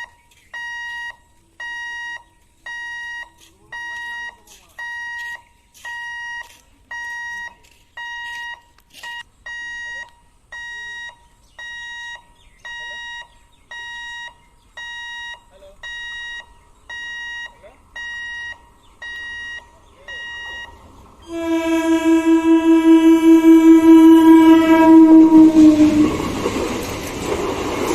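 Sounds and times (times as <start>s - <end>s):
level crossing alarm beeping: 0.0s - 26.4s.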